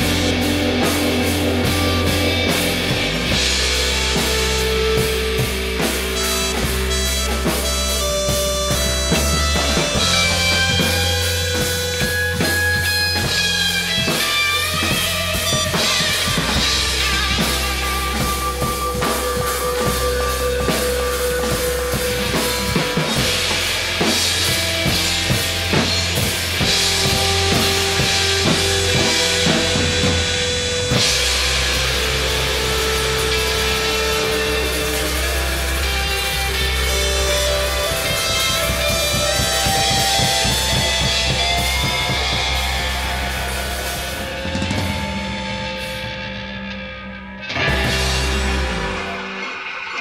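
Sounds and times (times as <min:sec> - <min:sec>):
instrumental rock band music: 0:00.0 - 0:50.0.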